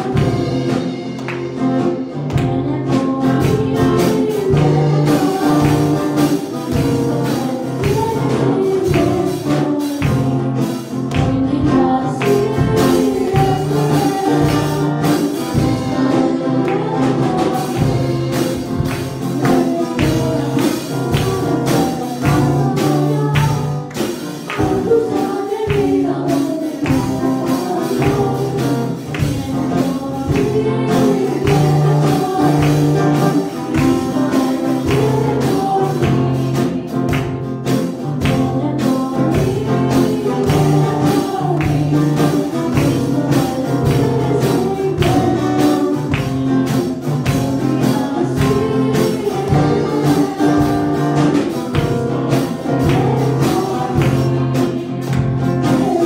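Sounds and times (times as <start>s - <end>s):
instrumental accompaniment with beat: 0.0s - 56.0s
girl singing into a microphone: 2.1s - 37.1s, 38.2s - 51.1s.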